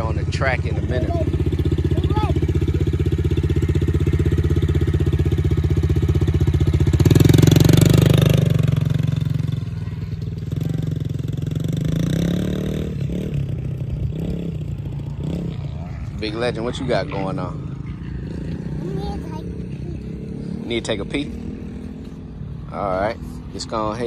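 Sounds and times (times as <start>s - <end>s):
dirt bike engine idling and revving: 0.0s - 24.0s.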